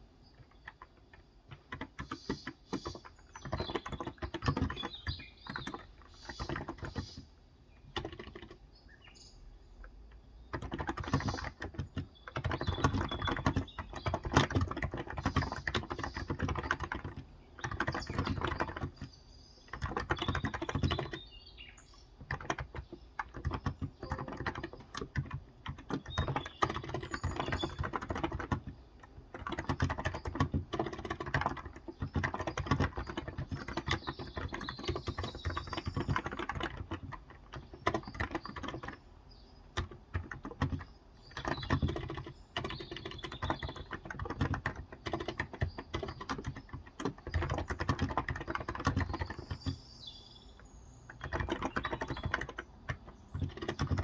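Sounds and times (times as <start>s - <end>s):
birds chirping faintly: 0.0s - 54.0s
typing on a keyboard: 0.3s - 8.7s, 9.8s - 54.0s.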